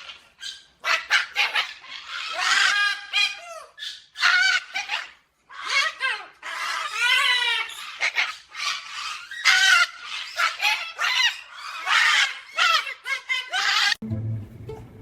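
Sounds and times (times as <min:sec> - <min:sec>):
cockatoo squawking: 0:00.0 - 0:14.0.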